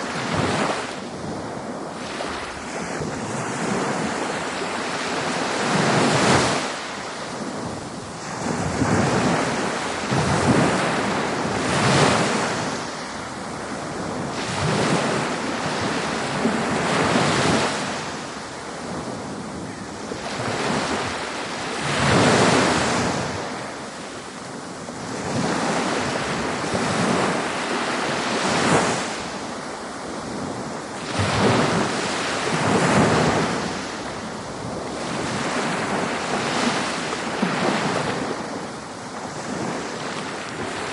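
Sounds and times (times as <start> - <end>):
ocean waves breaking: 0.0 - 40.9
wind noise on microphone: 0.0 - 40.9.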